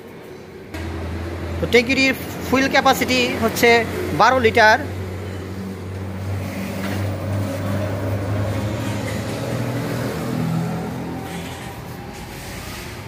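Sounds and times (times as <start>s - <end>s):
low engine-like hum: 0.6s - 13.0s.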